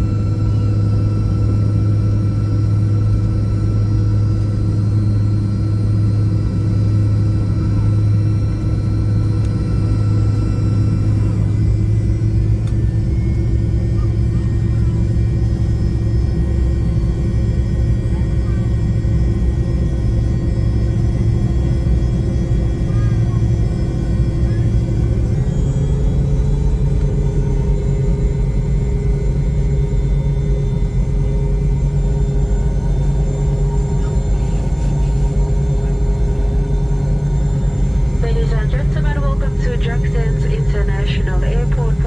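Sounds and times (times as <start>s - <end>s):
aircraft engine rumble: 0.0s - 42.0s
high engine whine: 0.0s - 42.0s.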